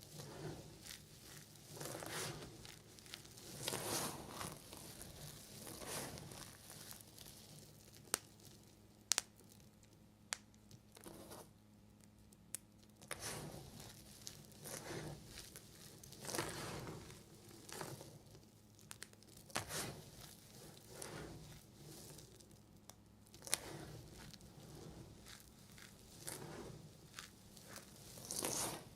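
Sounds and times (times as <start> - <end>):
knife crackling through soap: 0.1 - 8.3, 12.9 - 28.9.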